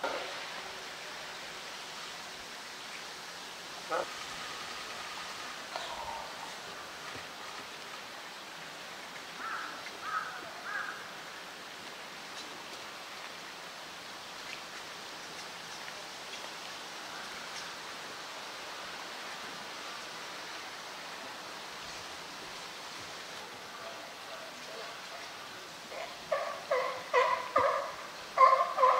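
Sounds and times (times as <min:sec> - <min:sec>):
running water: 0:00.0 - 0:28.9.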